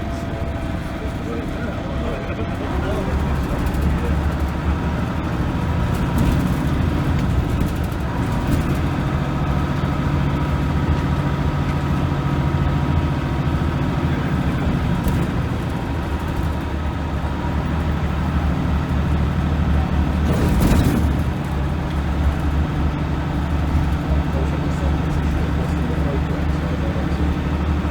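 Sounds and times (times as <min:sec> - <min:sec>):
bus diesel engine running: 0:00.0 - 0:27.9.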